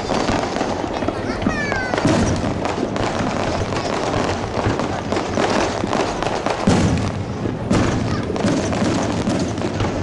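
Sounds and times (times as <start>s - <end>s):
fireworks bursting and crackling: 0.0s - 10.0s
heavy firework boom: 0.0s - 10.0s.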